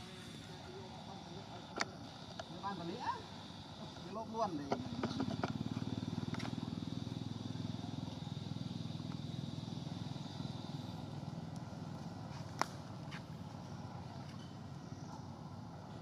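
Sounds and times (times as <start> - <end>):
small engine puttering: 0.0 - 16.0.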